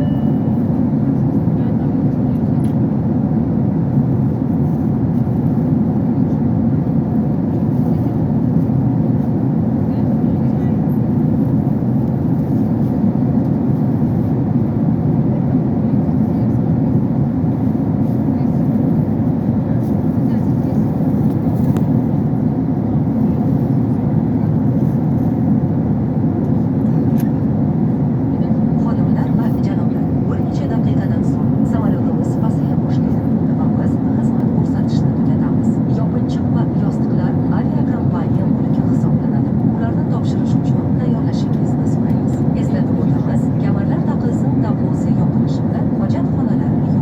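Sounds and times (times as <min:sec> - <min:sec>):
jet engine cabin rumble: 0:00.0 - 0:47.0.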